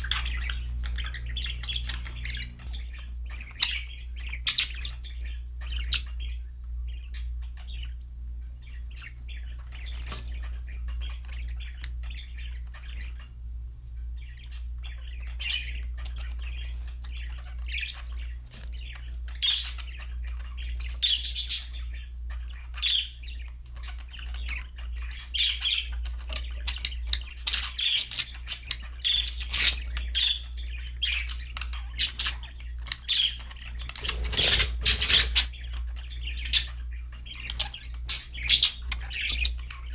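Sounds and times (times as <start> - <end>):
budgerigars chirping: 0.0 - 13.4, 14.0 - 39.9
steady low hum: 0.0 - 39.9.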